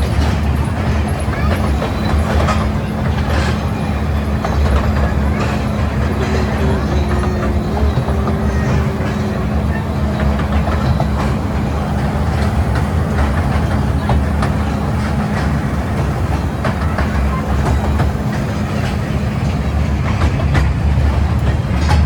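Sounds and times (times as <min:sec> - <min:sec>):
toy train rumble: 0:00.0 - 0:22.0
wheels clicking over rails: 0:00.0 - 0:22.0.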